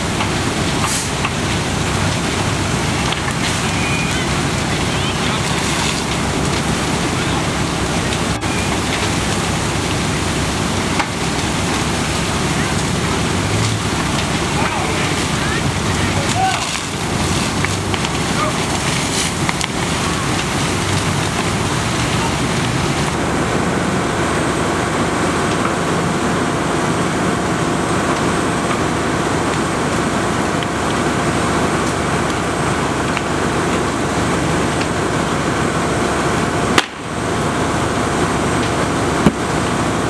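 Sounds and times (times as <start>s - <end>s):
building burning: 0.0s - 40.0s
fire engines running: 0.0s - 40.0s.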